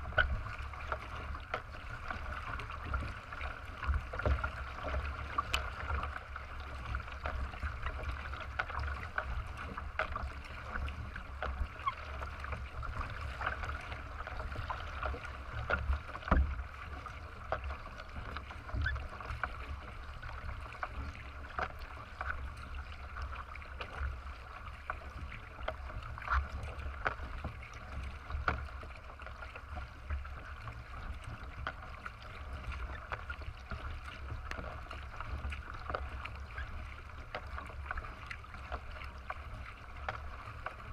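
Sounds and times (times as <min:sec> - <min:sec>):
paddle splashes: 0:00.0 - 0:40.9
water rushing past hull: 0:00.0 - 0:40.9.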